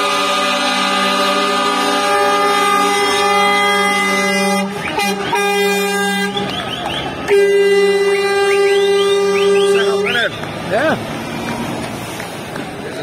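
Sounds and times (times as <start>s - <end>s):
truck air horns: 0.0s - 10.5s.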